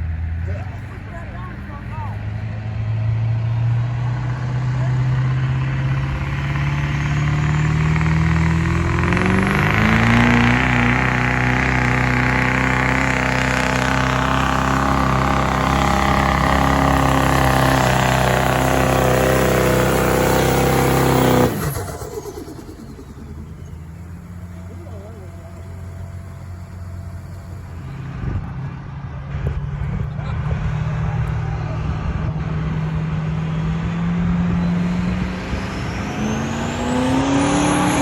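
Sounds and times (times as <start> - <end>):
diesel truck engine under heavy load: 0.0 - 38.0.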